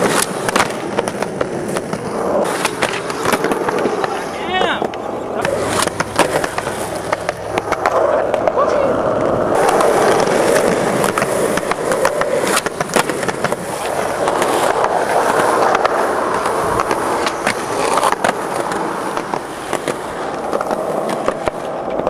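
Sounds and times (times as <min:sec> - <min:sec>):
skateboard clicks and clacks: 0:00.0 - 0:22.0
skateboard wheels rolling on concrete: 0:00.0 - 0:22.0.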